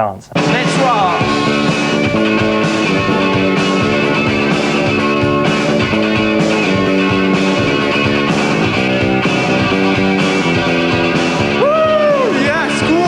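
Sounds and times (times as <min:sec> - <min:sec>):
rock music with guitar: 0:00.4 - 0:13.0.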